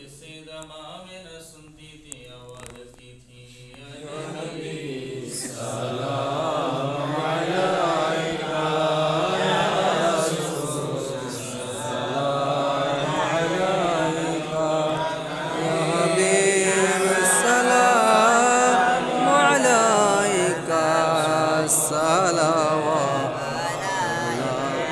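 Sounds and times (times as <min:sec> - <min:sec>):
men chanting in unison: 0:03.7 - 0:24.9.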